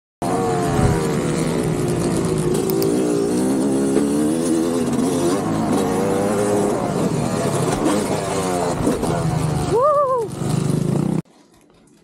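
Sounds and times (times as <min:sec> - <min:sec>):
dirt bike engine revving: 0:00.2 - 0:11.2.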